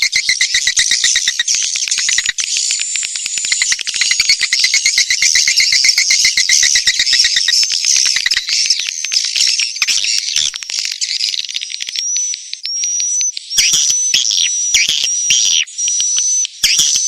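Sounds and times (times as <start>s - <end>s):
harsh twittering chirps: 0.0s - 17.0s
swiftlet clicking trills: 0.0s - 17.0s.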